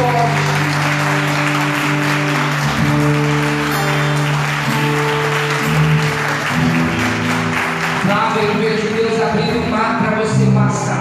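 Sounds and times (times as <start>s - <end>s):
crowd applauding loudly: 0.0s - 10.2s.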